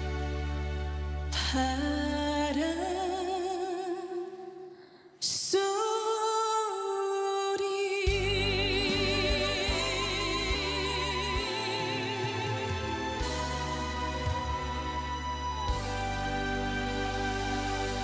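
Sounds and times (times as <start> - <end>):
woman singing ballad: 1.3 - 18.0.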